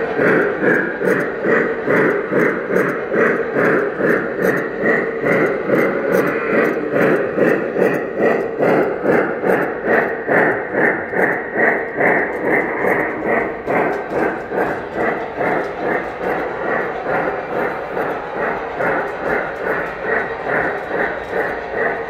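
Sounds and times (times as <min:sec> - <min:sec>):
model locomotive steam chuffing: 0:00.0 - 0:22.0.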